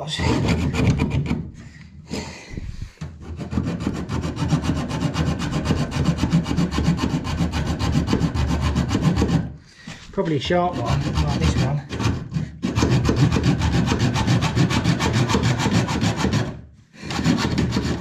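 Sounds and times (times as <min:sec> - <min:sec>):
hacksaw cutting pipe: 0:00.0 - 0:01.7, 0:03.0 - 0:18.0.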